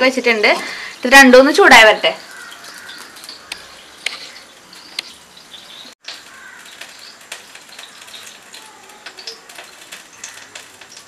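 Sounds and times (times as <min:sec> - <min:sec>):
low kitchen background noise: 0:00.0 - 0:11.0.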